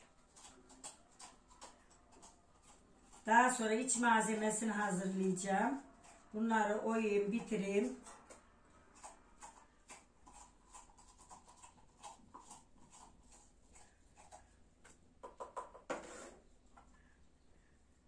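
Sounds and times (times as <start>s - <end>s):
corer scraping inside zucchini: 0.0s - 14.9s.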